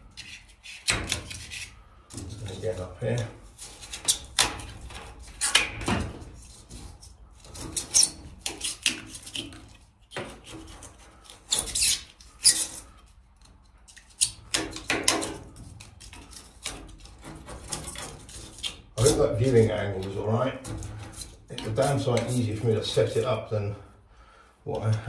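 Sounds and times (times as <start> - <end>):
blade scraping foam insulation: 0.0 - 13.1, 14.0 - 23.4.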